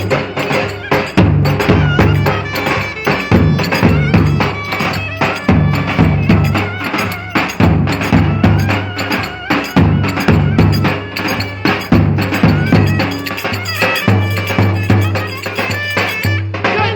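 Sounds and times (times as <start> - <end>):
hand percussion: 0.0 - 16.9.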